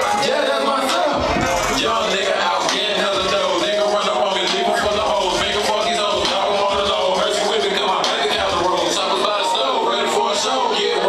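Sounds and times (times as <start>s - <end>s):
hip hop music: 0.0s - 11.0s
man rapping over a beat: 0.0s - 11.0s.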